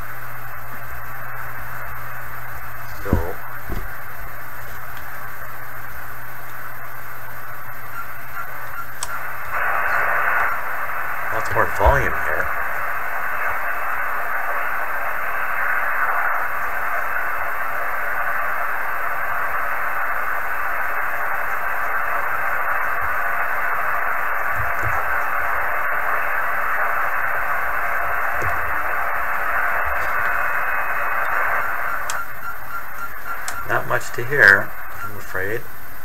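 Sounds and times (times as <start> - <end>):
radio static hiss: 0.0 - 36.0.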